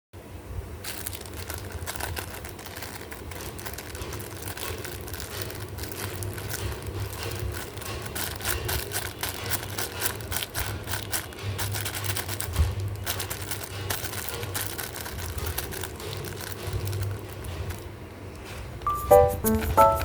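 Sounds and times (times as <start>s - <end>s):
materials clicking and rustling: 0.8s - 20.0s.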